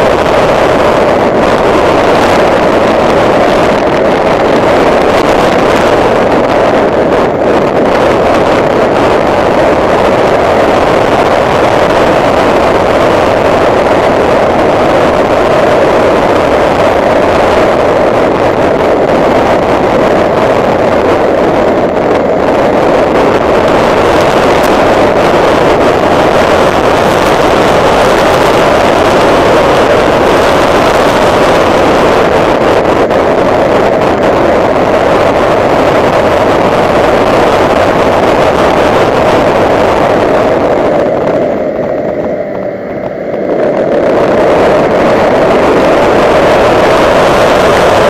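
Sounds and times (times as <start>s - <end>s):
car engine: 0.0s - 48.0s
wind and road noise: 0.0s - 48.0s.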